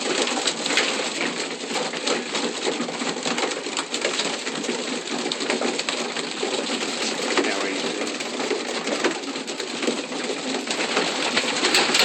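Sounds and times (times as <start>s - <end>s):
pigeons clicking and scuffing: 0.0s - 12.0s.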